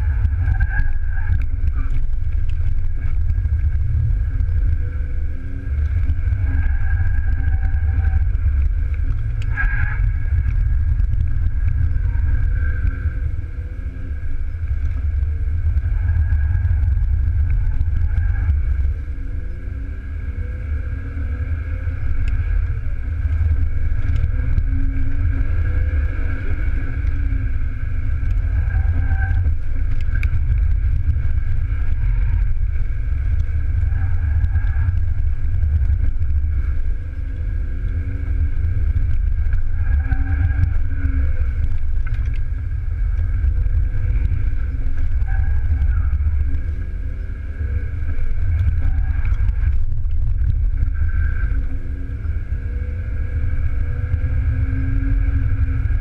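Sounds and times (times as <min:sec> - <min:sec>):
heavy low cabin rumble: 0:00.0 - 0:56.0.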